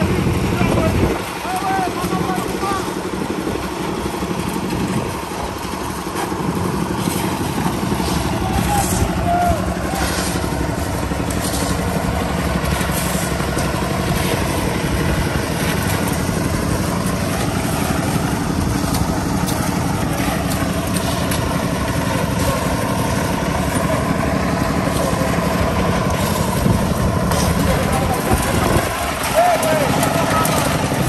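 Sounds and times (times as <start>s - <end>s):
small machine engine running: 1.4s - 31.0s.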